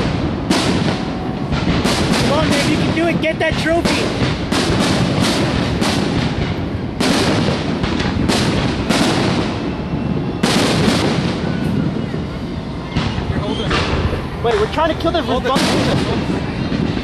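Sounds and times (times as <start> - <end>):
fireworks booming: 0.0 - 17.0
rolling rumble: 0.0 - 17.0.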